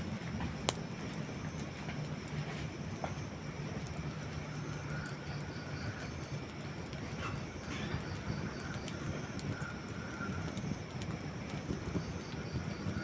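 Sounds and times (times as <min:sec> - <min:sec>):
campfire flames rushing: 0:00.0 - 0:13.0
faint fire crackles: 0:00.0 - 0:13.0.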